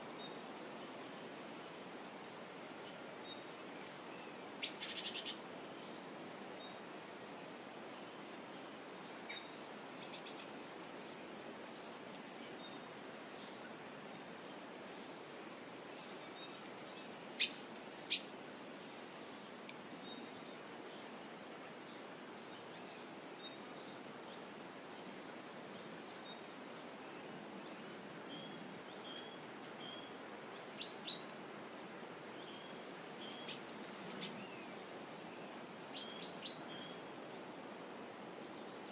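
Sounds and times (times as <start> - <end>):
wild birds chirping: 0.0 - 7.3, 8.2 - 15.2, 15.9 - 38.9
outdoor background hiss: 0.0 - 38.9.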